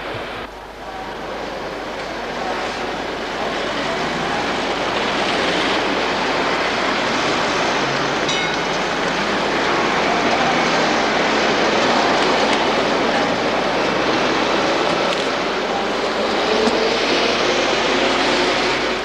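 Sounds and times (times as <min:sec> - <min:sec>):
dense street traffic: 0:00.0 - 0:19.0.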